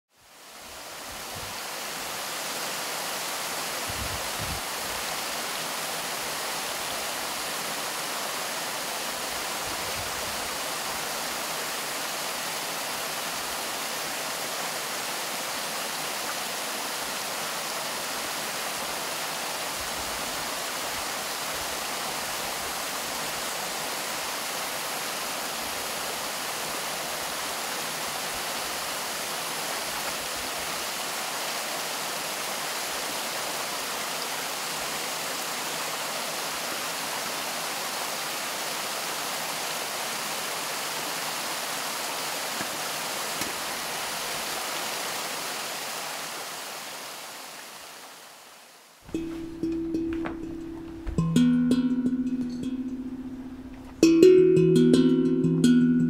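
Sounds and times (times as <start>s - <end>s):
waterfall over rocks: 0.2s - 51.5s.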